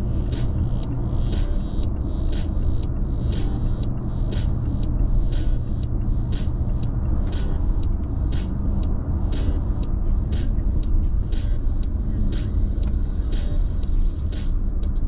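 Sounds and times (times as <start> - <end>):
road and engine rumble: 0.0 - 15.0
sharp high tick: 0.1 - 14.6.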